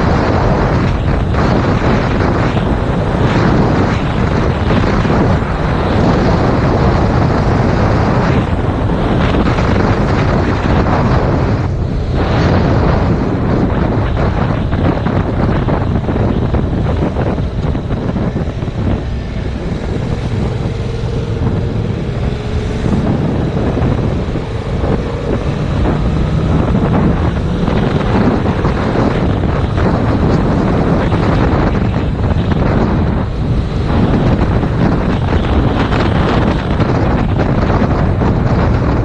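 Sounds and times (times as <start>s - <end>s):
motorcycle engine running: 0.0s - 39.0s
wind buffeting a camera: 0.0s - 39.0s.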